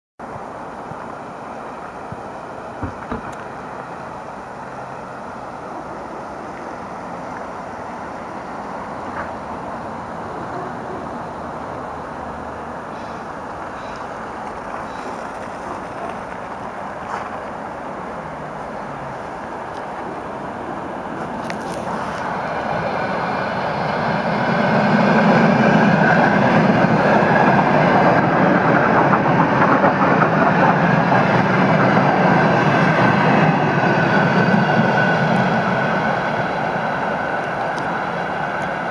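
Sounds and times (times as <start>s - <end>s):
electric train running: 0.2s - 38.9s.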